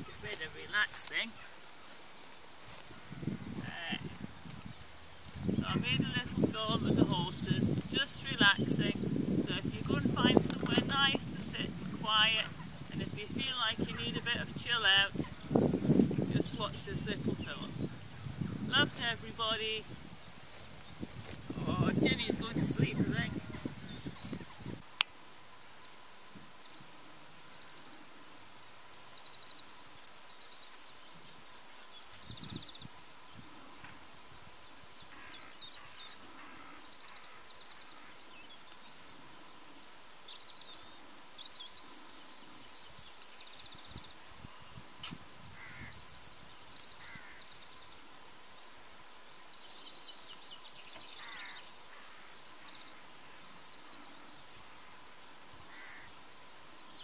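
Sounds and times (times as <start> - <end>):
songbirds chirping and trilling: 0.0 - 57.0
steady outdoor hiss: 0.0 - 57.0.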